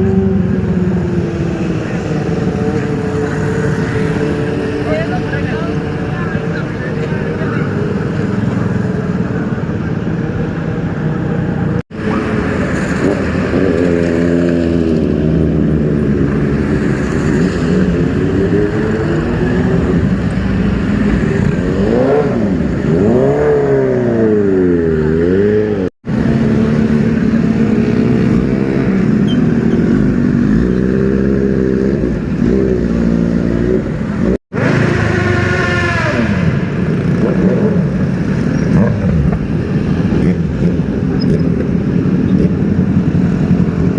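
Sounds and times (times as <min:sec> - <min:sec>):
superbike engines revving: 0:00.0 - 0:43.9.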